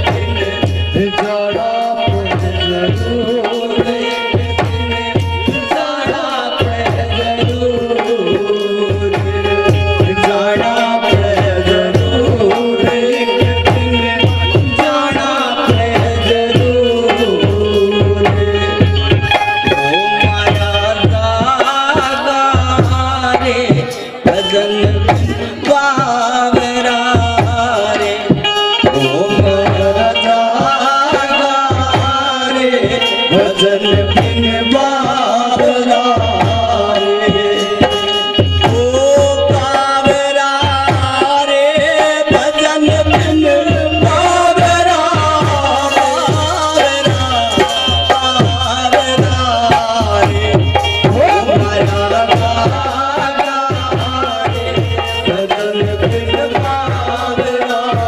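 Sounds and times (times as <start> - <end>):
dholak drum rhythm: 0.0 - 58.0
harmonium melody: 0.0 - 58.0.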